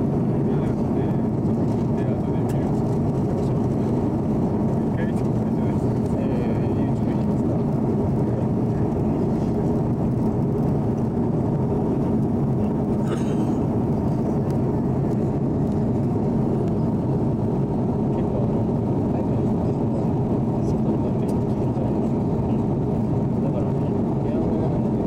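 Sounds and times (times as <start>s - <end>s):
airliner cabin engine noise: 0.0s - 25.0s.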